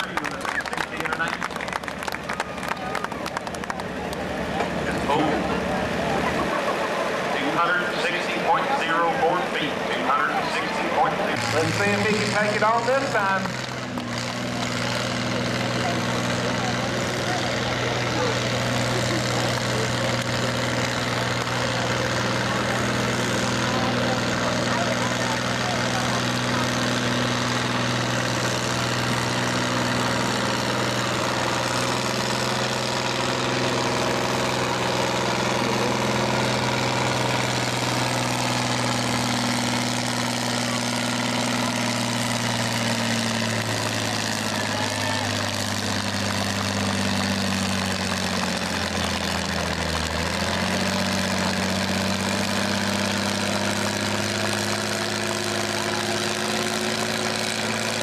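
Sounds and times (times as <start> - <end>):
tractor engine running hard: 0.0 - 58.0.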